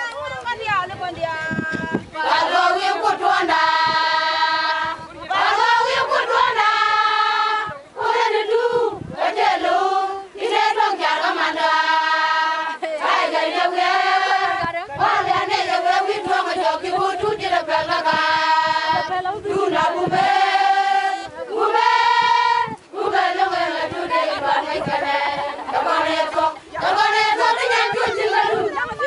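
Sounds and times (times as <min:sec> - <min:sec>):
women singing in unison: 0:01.4 - 0:29.0.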